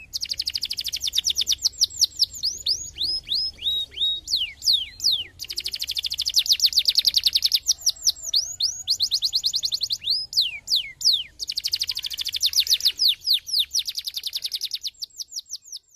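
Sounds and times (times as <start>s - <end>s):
canary singing trills: 0.0s - 15.9s.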